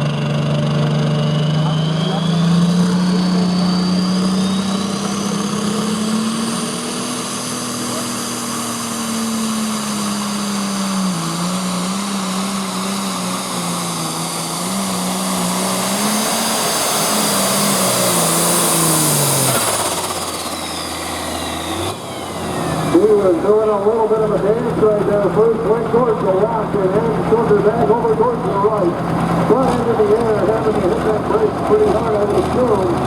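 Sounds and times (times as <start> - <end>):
diesel tractor engine at full power: 0.0 - 33.0.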